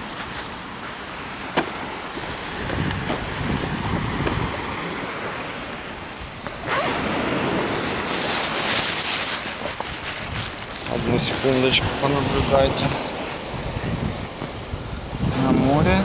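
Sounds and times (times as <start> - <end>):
waves washing on pebbles: 0.9 - 14.8
wind on microphone: 2.2 - 16.0.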